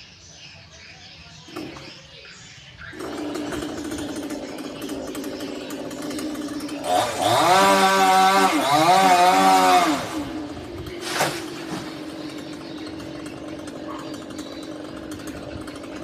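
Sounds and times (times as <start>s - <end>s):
chainsaw idling and revving: 2.9s - 16.0s.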